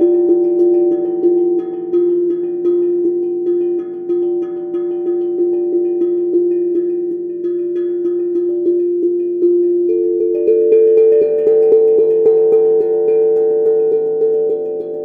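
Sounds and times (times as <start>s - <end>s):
steel tongue drum notes: 0.0s - 15.0s.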